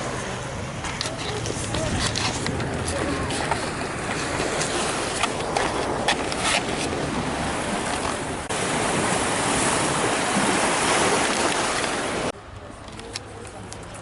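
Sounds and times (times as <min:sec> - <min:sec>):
sea surf washing on shore: 0:00.0 - 0:12.4.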